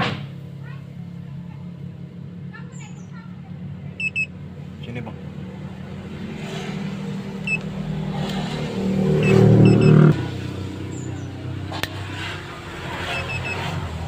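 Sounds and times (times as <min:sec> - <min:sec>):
vehicle engine revving: 0:00.1 - 0:14.0.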